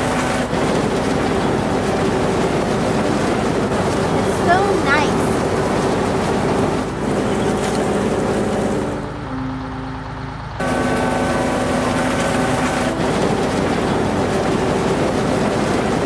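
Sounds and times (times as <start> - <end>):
cartoon farm machinery running: 0.0 - 16.0.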